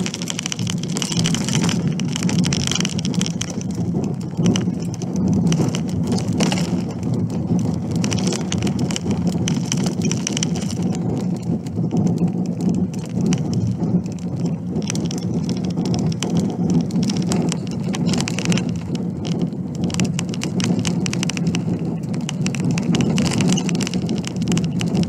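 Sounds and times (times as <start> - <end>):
gravel crackling under tyres: 0.0 - 25.0.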